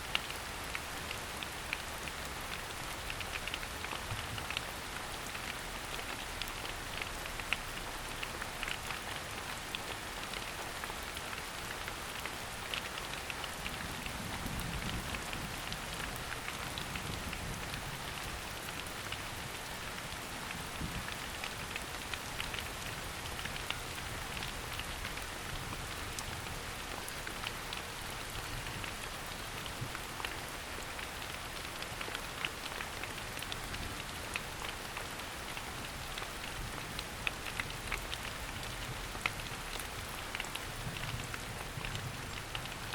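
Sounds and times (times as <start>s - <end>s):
rain pattering on leaves: 0.0s - 42.9s.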